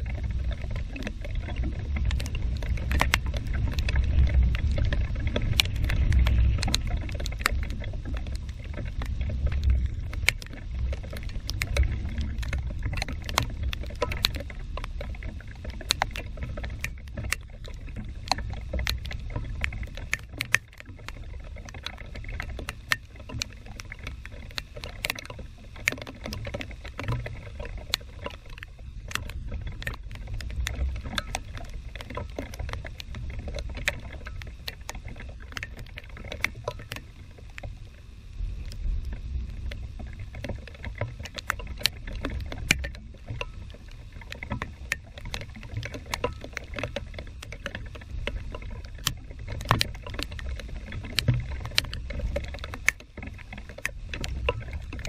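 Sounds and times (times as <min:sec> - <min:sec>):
raindrops hitting microphone: 0:00.0 - 0:55.0.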